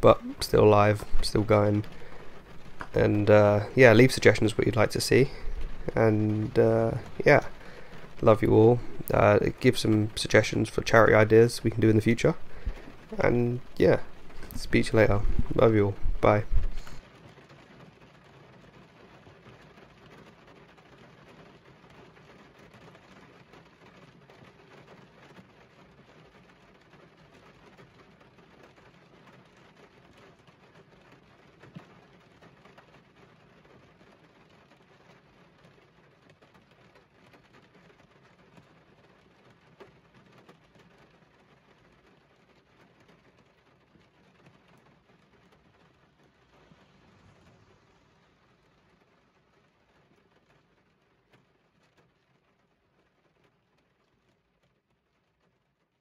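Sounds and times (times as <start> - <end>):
faint rain: 0.0 - 56.0.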